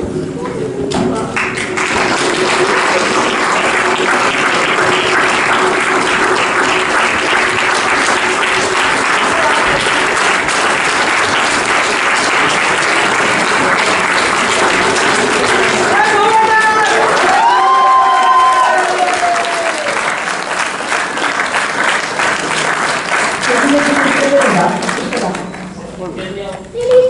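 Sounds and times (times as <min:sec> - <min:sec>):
audience applauding: 0:01.2 - 0:26.1.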